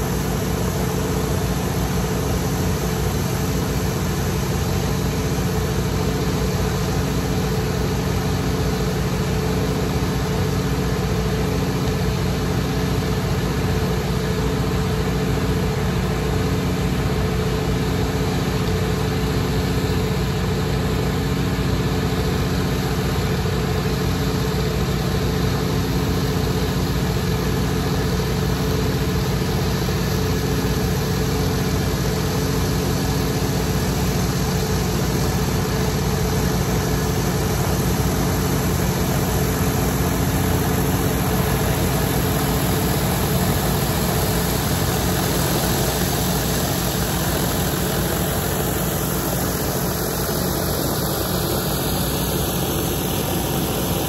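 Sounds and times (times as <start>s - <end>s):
pressure washer running: 0.0s - 54.0s.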